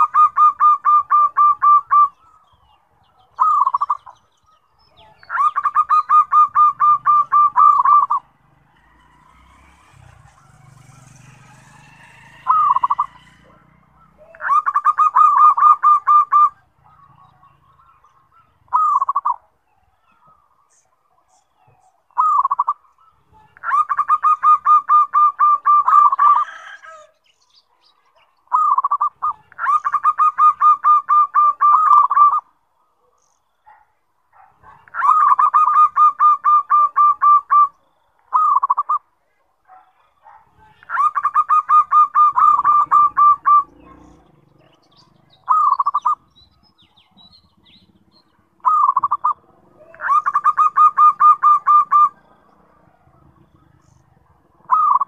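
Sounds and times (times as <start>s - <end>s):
dove cooing: 0.0s - 4.2s, 4.9s - 20.4s, 21.6s - 27.1s, 28.5s - 32.5s, 33.7s - 39.1s, 39.7s - 55.0s.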